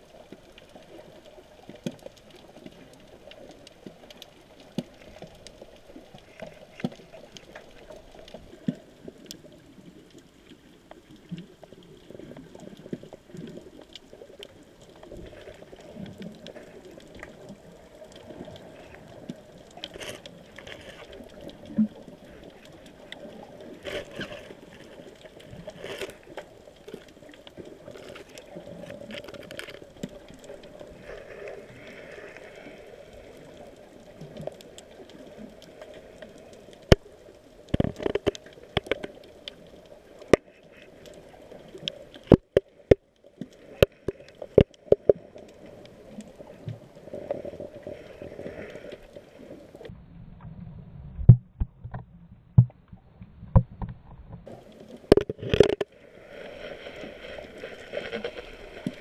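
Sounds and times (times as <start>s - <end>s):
sharp clicks and crackles: 0.0s - 50.5s, 51.2s - 59.0s.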